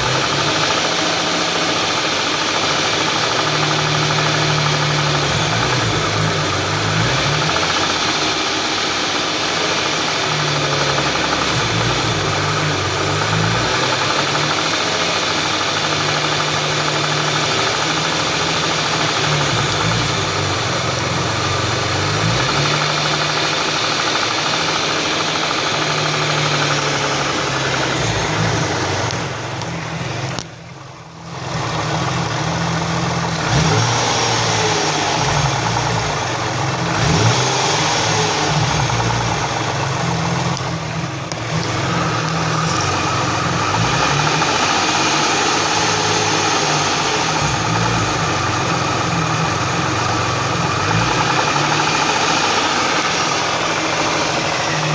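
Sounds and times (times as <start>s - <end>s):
car engine running steadily: 0.0s - 54.9s.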